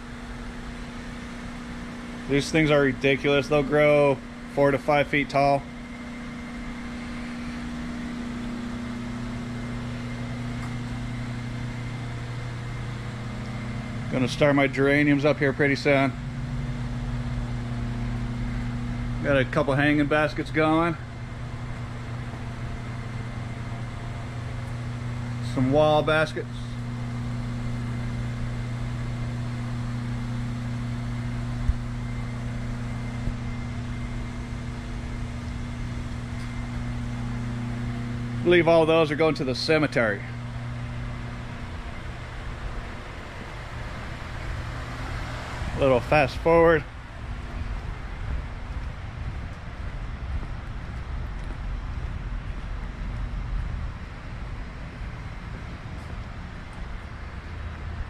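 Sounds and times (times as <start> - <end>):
ventilation fan humming: 0.0 - 58.0.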